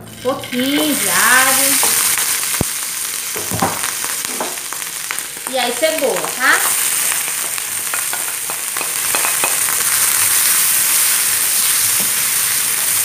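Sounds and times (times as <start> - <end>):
onion sizzling in oil: 0.0 - 13.0
crackles of food landing: 0.4 - 13.0.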